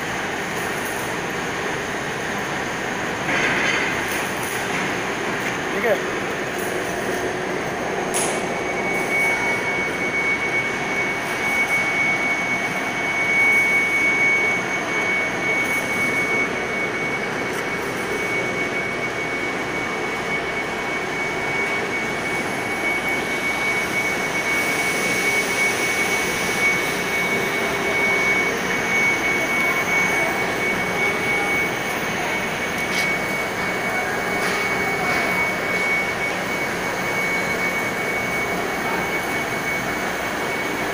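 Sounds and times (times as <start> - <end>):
high-pitched machine whine: 0.0 - 40.9
machine whirring: 0.1 - 40.9.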